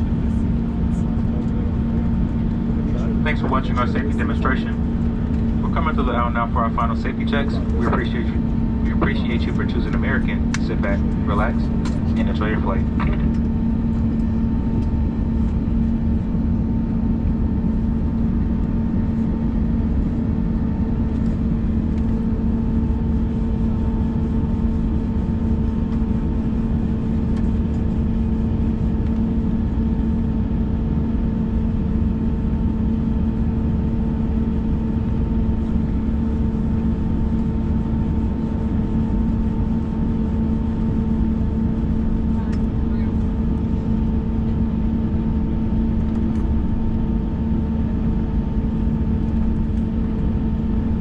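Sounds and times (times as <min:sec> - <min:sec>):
airplane cabin drone: 0:00.0 - 0:51.0.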